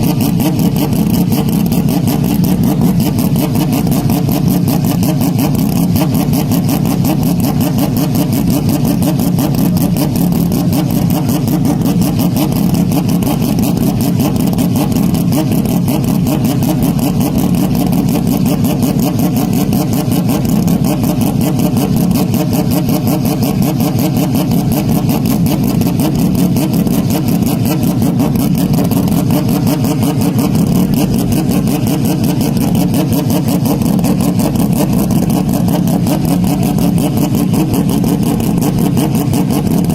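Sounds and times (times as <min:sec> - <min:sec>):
distorted racing engine high revs: 0:00.0 - 0:39.9.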